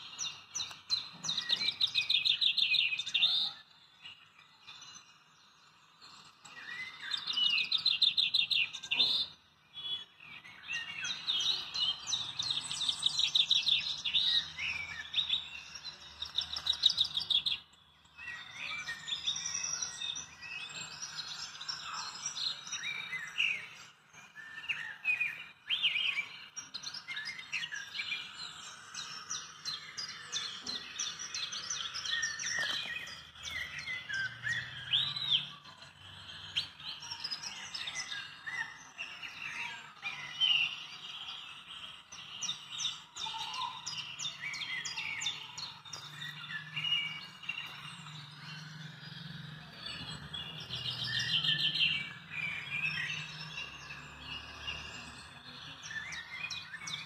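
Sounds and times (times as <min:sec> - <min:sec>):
many birds chirping: 0:00.0 - 0:57.0.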